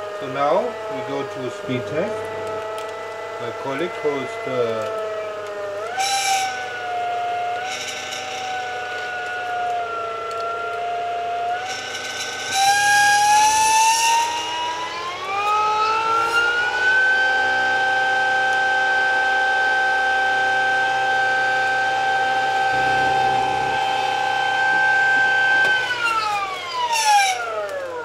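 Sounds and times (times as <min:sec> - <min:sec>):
electric motor whine: 0:00.0 - 0:28.0.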